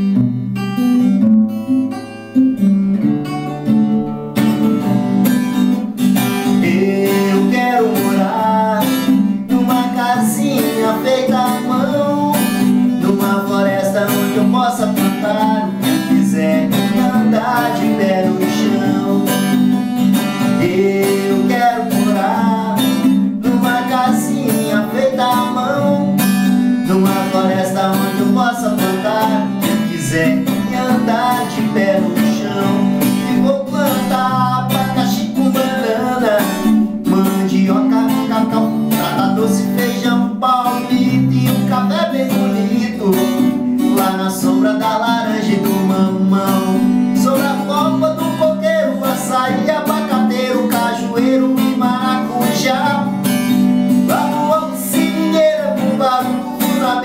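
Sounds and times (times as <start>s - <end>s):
acoustic guitar strumming: 0.0s - 57.0s
man singing: 3.4s - 57.0s.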